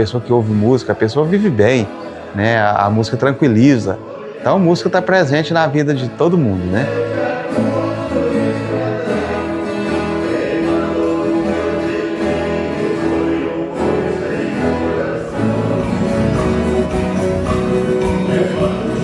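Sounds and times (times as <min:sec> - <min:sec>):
instrumental accompaniment: 0:00.0 - 0:19.0
voices singing in harmony: 0:00.0 - 0:19.0.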